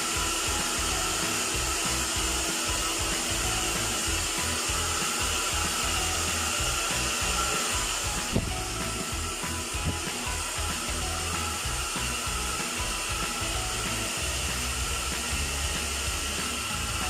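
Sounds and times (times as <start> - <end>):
airflow buffeting microphone: 0.0 - 17.0
hair dryer running: 0.0 - 17.0.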